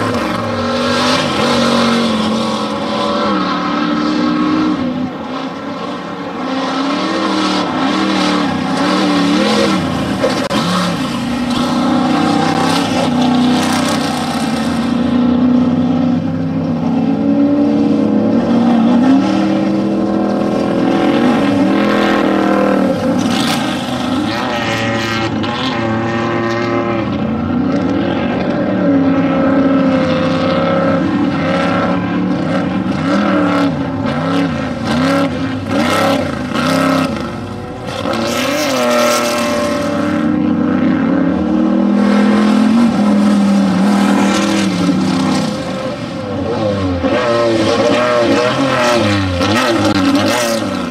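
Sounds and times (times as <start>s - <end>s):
off-road race vehicle engines revving: 0.0s - 50.9s.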